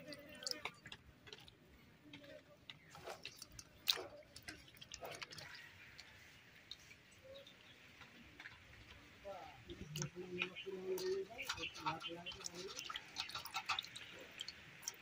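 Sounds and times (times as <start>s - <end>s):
wet squishing and dripping: 0.0s - 1.7s, 2.7s - 15.0s.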